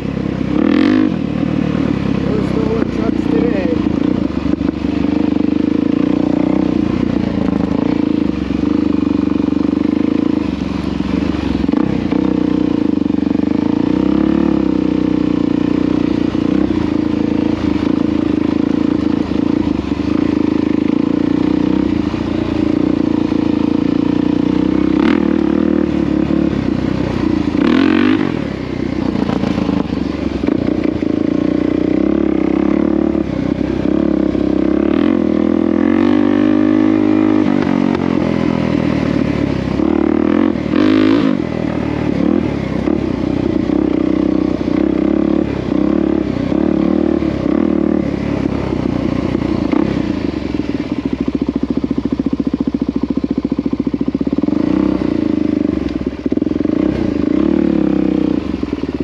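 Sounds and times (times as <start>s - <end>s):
small vehicle engine running: 0.0s - 59.0s.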